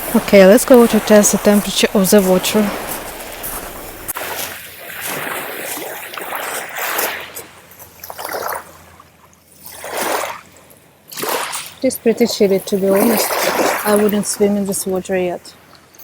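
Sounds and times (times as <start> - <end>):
small waves washing ashore: 0.0 - 16.0.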